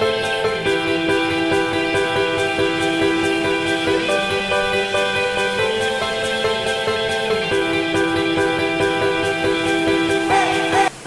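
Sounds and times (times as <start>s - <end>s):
instrumental background music: 0.0s - 11.0s
light steady beat: 0.0s - 11.0s.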